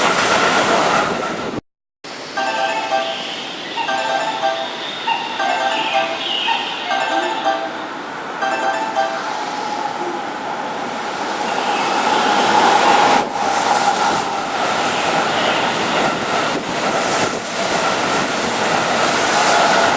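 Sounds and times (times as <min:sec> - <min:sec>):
electric train running through: 0:00.0 - 0:19.9
wheels clacking on rails: 0:03.9 - 0:19.9.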